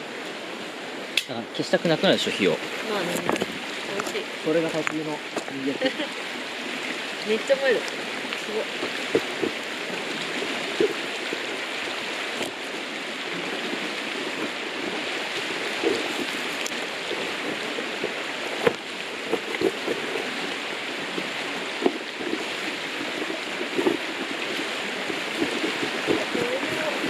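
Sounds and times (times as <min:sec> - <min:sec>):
flowing river: 0:00.0 - 0:27.0
campfire crackling and popping: 0:02.8 - 0:27.0.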